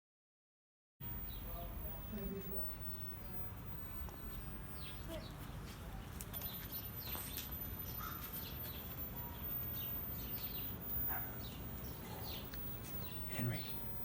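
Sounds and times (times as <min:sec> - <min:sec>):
birds chirping: 0:01.0 - 0:14.0.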